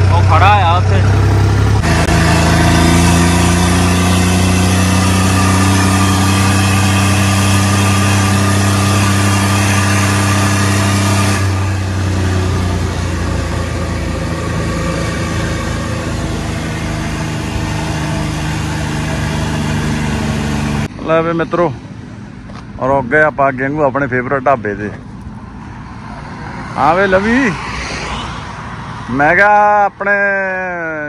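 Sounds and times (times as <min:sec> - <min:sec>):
tractor diesel engine running: 0:00.0 - 0:27.5.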